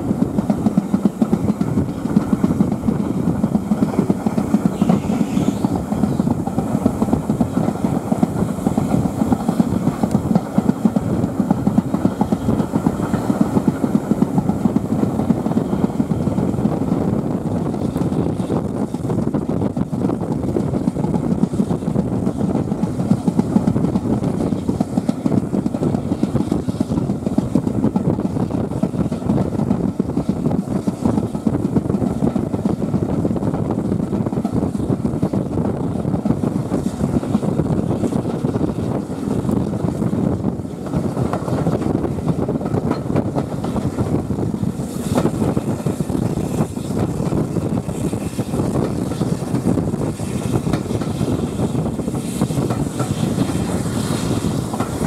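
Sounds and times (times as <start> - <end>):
train wheels clicking: 0.0 - 55.0
train wheels rumbling on rails: 0.0 - 55.0
wind noise on microphone: 0.0 - 55.0.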